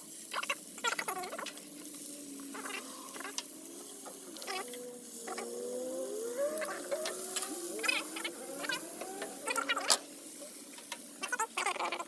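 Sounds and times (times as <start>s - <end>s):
soft hiss: 0.0s - 11.4s.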